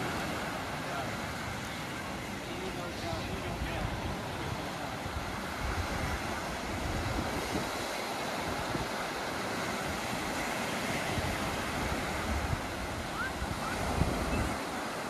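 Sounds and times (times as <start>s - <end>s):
waves washing up beach: 0.0s - 15.0s
wind rumbling on microphone: 2.7s - 15.0s.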